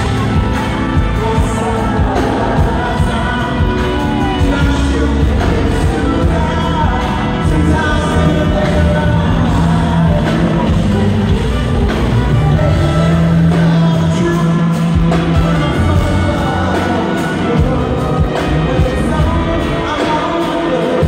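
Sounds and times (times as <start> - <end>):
live r and b music: 0.0 - 21.0
man singing over a band: 0.0 - 21.0.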